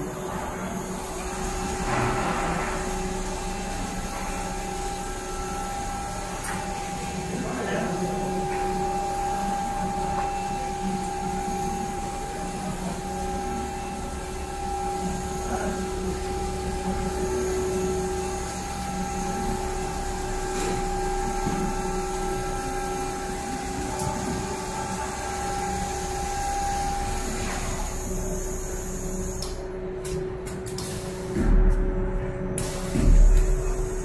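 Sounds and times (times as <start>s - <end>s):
steady machine hum: 0.0s - 34.0s
steady whining tones: 0.0s - 34.0s.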